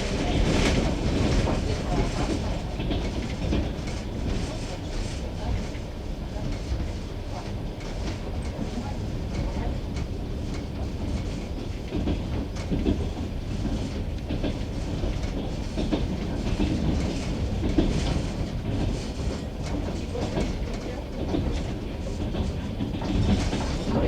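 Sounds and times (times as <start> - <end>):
train carriage rumble: 0.0 - 24.0.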